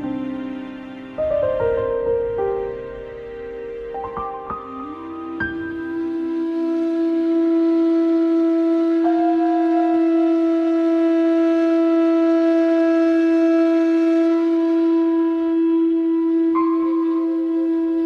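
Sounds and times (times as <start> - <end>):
music of long held notes: 0.0 - 18.0.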